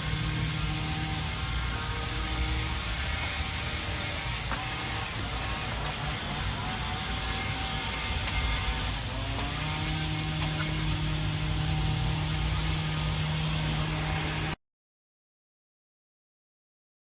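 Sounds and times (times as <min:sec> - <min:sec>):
portable generator running: 0:00.0 - 0:14.6.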